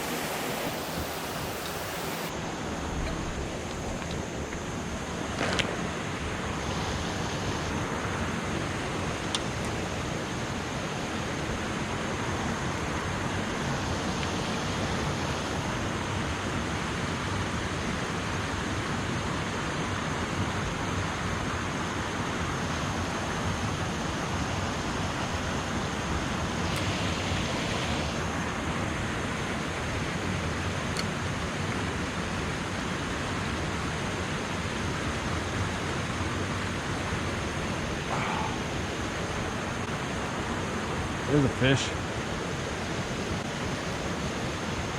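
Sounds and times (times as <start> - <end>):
river water rushing over dam: 0.0 - 44.9.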